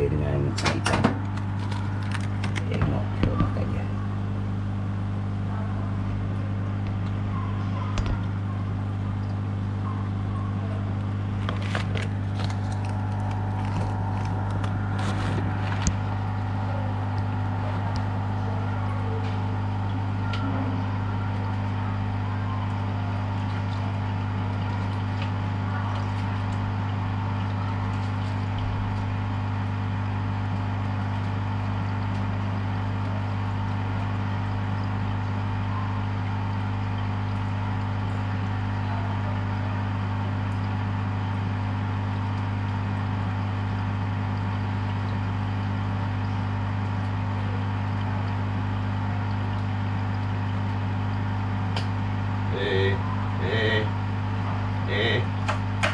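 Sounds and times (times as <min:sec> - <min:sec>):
aquarium filter pump humming: 0:00.0 - 0:55.9.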